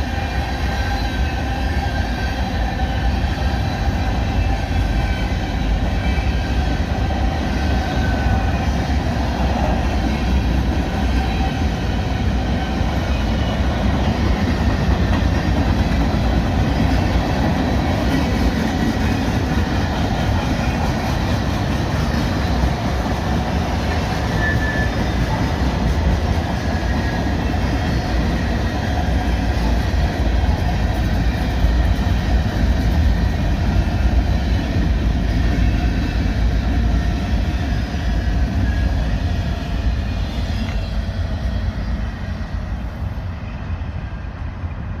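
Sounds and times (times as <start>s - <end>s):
freight train cars rumbling: 0.0s - 45.0s.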